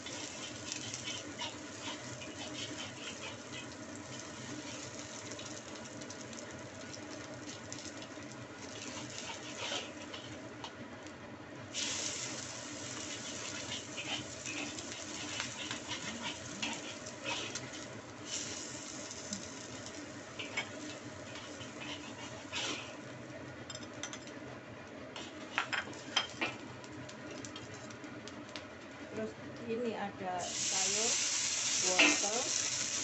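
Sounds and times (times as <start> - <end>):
egg sizzling in hot oil: 0.0 - 24.3, 30.4 - 33.0.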